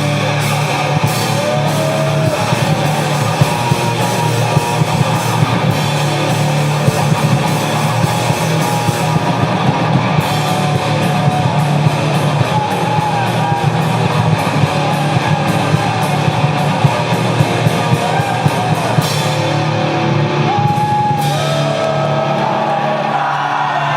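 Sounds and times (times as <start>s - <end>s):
fast drum beat: 0.0s - 22.7s
heavy rock band: 0.0s - 23.9s.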